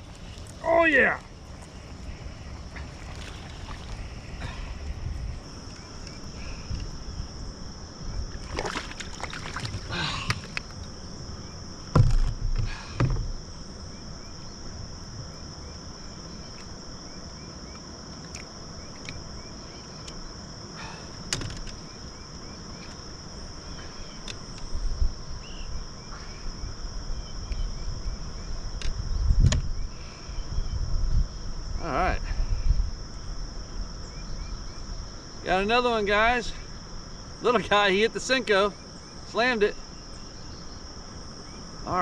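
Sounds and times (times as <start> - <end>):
insect chorus: 0.0 - 42.0.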